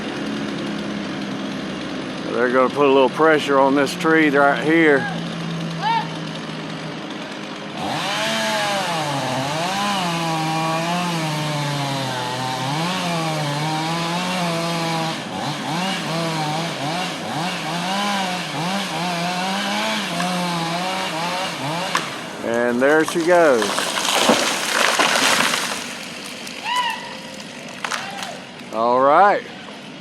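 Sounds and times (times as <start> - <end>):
chainsaw cutting through tree: 0.0 - 30.0.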